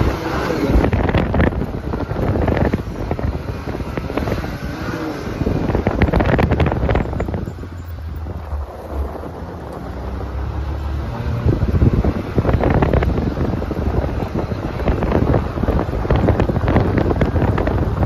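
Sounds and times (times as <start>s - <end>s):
vehicle engine running: 0.0s - 18.0s
wind buffeting microphone: 0.0s - 18.0s
gravel patter: 1.0s - 18.0s.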